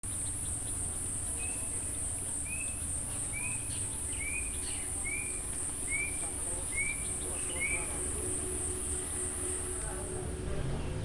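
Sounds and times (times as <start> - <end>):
insects droning: 0.1 - 11.0.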